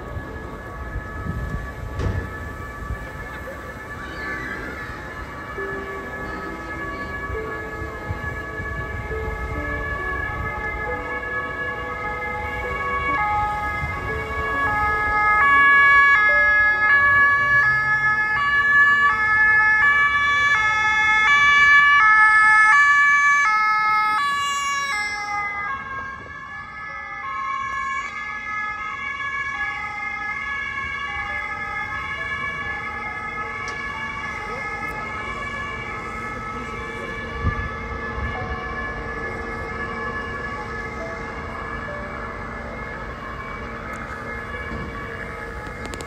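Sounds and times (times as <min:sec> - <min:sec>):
two-tone emergency siren: 0:00.0 - 0:46.0.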